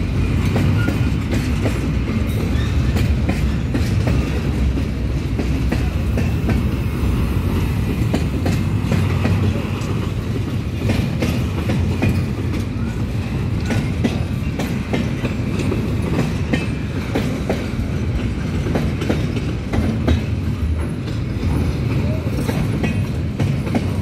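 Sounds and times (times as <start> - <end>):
train rolling rumble: 0.0 - 24.0
train wheels clacking over rail joints: 0.0 - 24.0.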